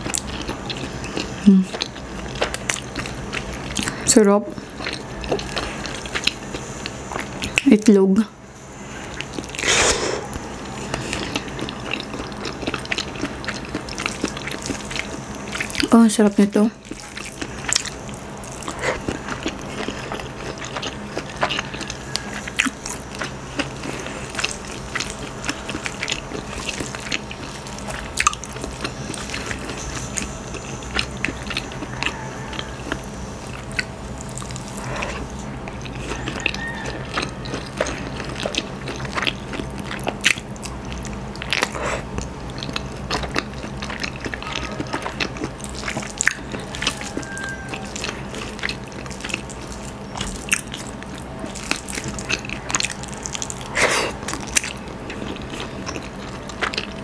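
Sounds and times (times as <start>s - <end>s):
wet chewing and smacking: 0.0s - 8.0s, 9.0s - 57.0s.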